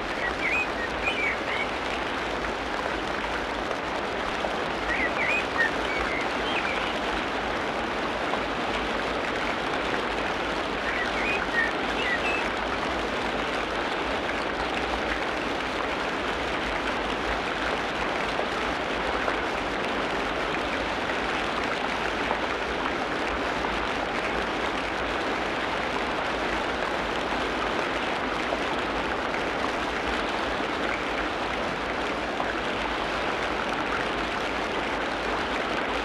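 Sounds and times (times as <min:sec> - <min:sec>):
rain falling on forest: 0:00.0 - 0:36.0.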